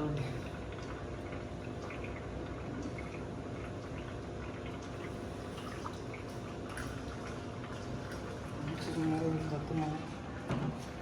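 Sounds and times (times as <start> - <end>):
low pump hum: 0.0 - 11.0
water trickling and dripping: 0.0 - 11.0.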